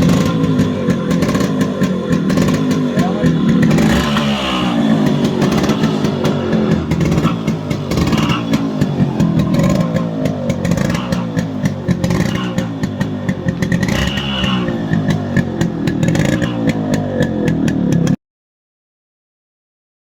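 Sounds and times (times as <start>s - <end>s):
two-stroke motorcycle engine revving: 0.0s - 18.2s.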